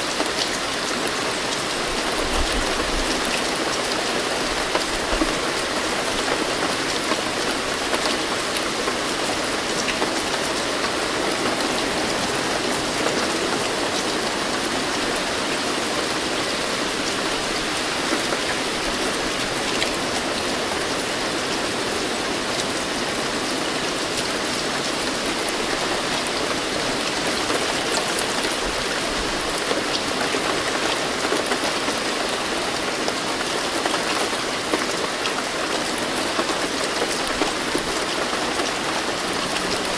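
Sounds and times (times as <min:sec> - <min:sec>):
raindrops pattering: 0:00.0 - 0:39.9.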